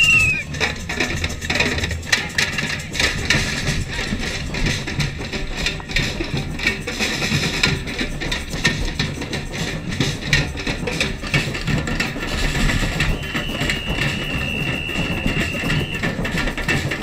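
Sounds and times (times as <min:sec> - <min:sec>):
samba drums playing: 0:00.0 - 0:17.0.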